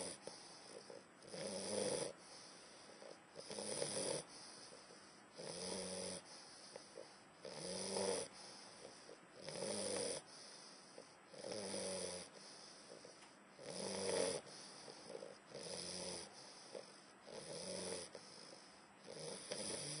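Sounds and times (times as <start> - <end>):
dog snoring: 0.0 - 20.0.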